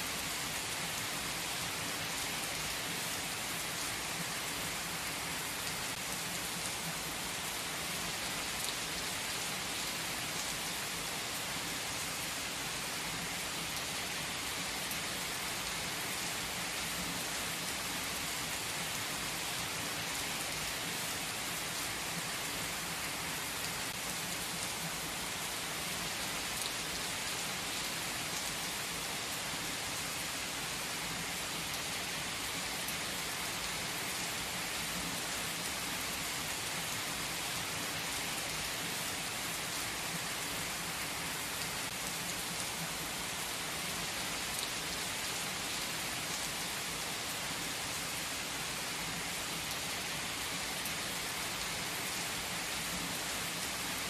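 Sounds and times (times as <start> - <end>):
heavy rain pouring on asphalt: 0.0 - 54.0.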